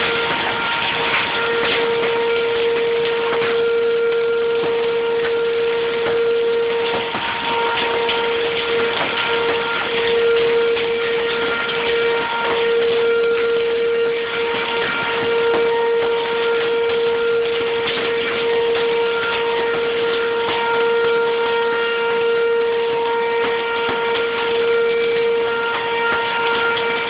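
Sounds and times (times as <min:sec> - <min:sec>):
rain and hail hiss: 0:00.0 - 0:27.0
tornado warning siren: 0:00.0 - 0:27.0.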